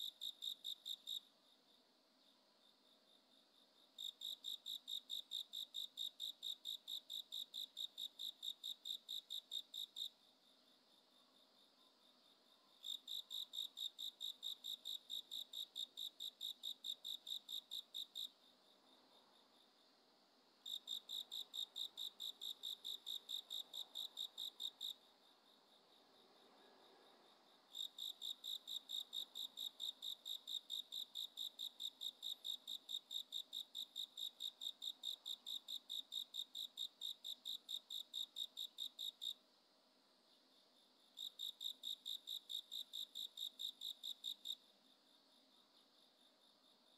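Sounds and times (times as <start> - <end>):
insect chirping: 0.0 - 39.4, 40.1 - 46.9.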